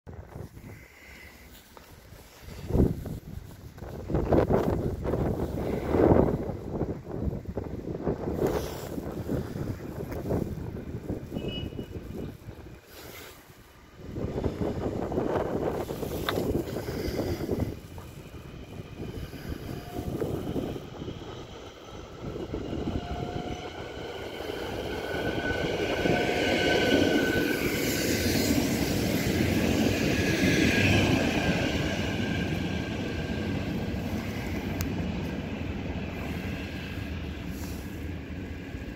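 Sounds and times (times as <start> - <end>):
train wheels rumbling on rails: 0.1 - 38.9
electric train whine: 0.4 - 38.9.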